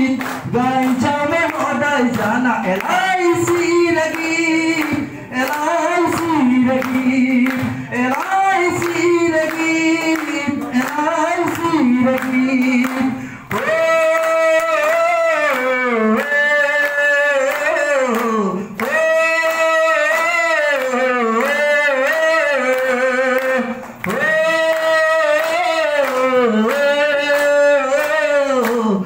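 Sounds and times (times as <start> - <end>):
audience clapping along: 0.0 - 29.0
person singing through microphone: 0.0 - 29.0.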